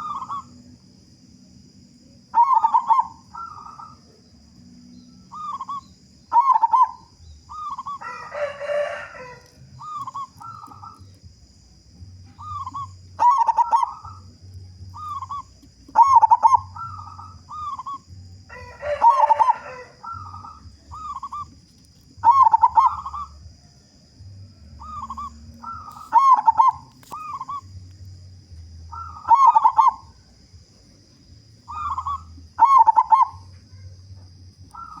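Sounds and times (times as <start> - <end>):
dove cooing: 0.0 - 0.7, 2.3 - 4.2, 5.2 - 23.7, 24.3 - 28.1, 28.8 - 30.4, 31.6 - 35.0.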